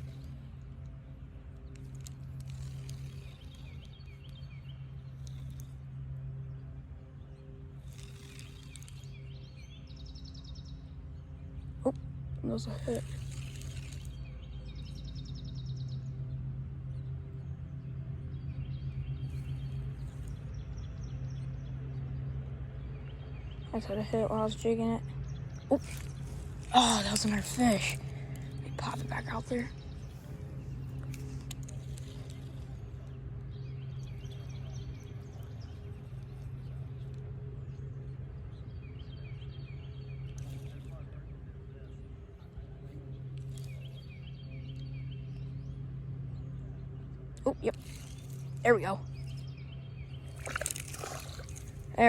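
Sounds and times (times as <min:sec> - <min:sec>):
songbirds chirping: 0:00.0 - 0:52.0
steady low hum: 0:00.0 - 0:52.0
steady low rumble: 0:00.0 - 0:52.0.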